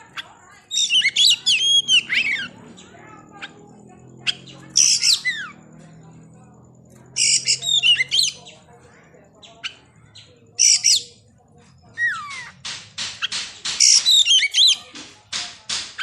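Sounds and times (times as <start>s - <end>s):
bird singing: 0.0s - 15.7s.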